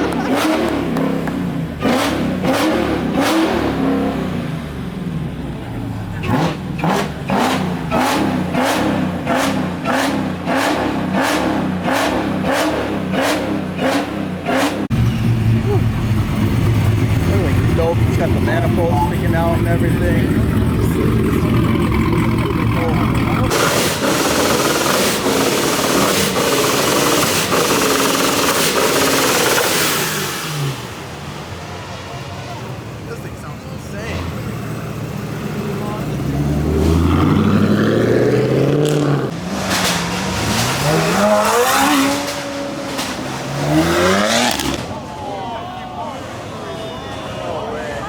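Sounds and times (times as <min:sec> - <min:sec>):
car engine revving in blips: 0:00.0 - 0:31.9, 0:32.7 - 0:45.1.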